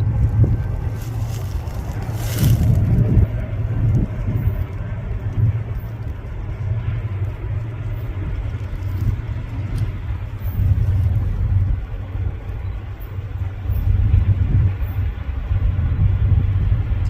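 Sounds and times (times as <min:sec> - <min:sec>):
freight train rumbling by: 0:00.0 - 0:17.0.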